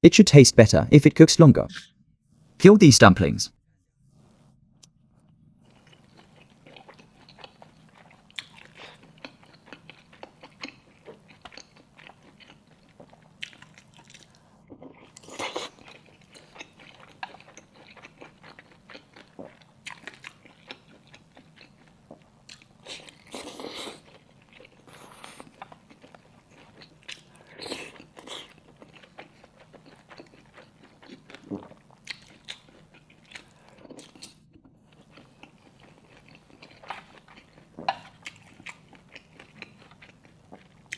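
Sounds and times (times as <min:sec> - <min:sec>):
person biting and chewing: 0:05.7 - 0:40.9.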